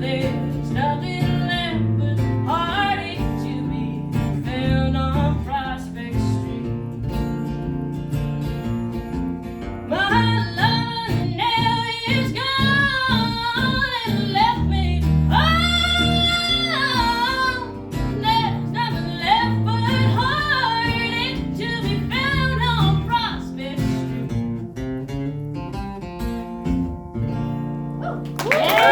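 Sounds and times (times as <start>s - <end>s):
acoustic guitar: 0.0s - 28.9s.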